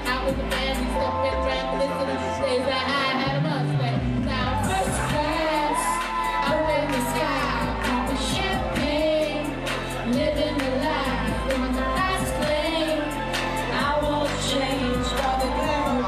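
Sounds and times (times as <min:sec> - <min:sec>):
backing music with bass and beat: 0:00.0 - 0:02.2, 0:03.3 - 0:16.0
woman singing into microphone: 0:00.0 - 0:16.0.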